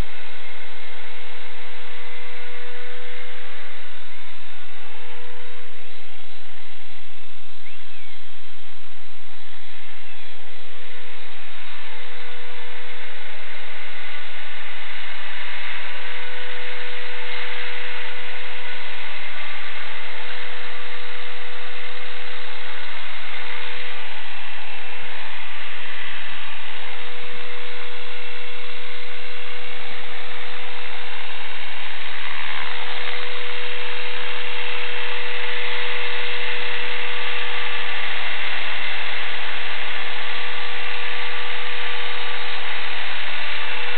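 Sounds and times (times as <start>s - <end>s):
small electric motor whining: 0.0s - 43.9s.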